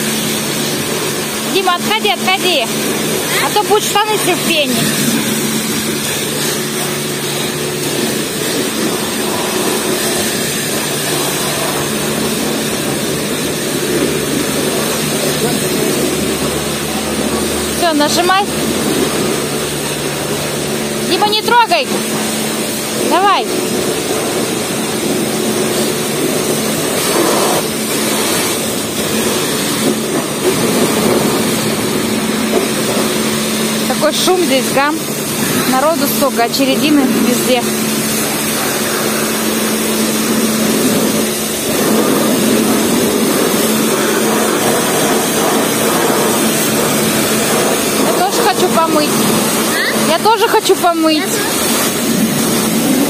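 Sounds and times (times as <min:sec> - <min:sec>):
pressure washer spraying water: 0:00.0 - 0:53.0
pump equipment humming: 0:00.0 - 0:53.0.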